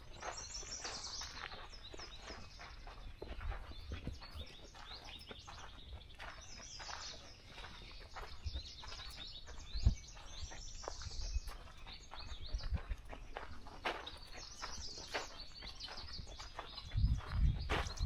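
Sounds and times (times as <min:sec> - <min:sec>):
footsteps on a trail: 0:00.0 - 0:18.0
songbirds chirping and trilling: 0:00.0 - 0:18.0.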